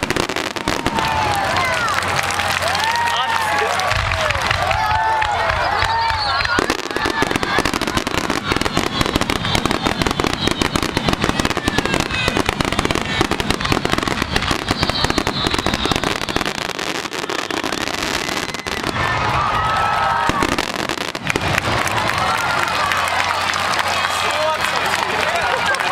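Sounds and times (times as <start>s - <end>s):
fireworks bursting: 0.0s - 3.0s, 3.8s - 23.0s
fireworks crackling: 0.0s - 25.9s.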